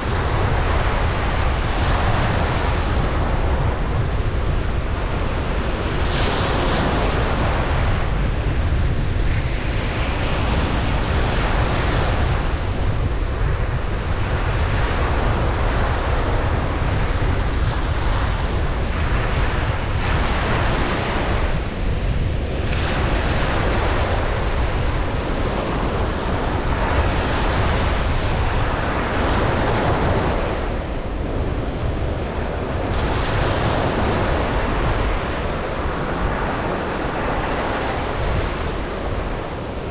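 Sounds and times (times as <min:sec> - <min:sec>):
ocean waves breaking: 0:00.0 - 0:39.9
wind on microphone: 0:00.0 - 0:39.9.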